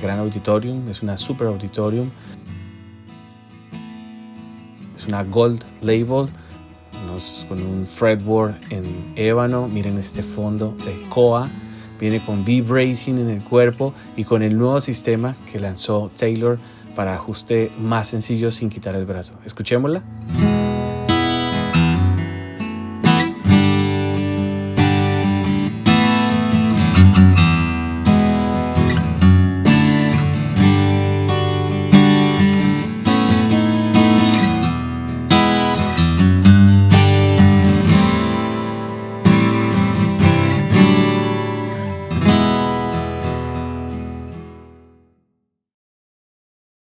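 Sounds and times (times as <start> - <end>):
acoustic guitar chords ringing: 0.0 - 45.2.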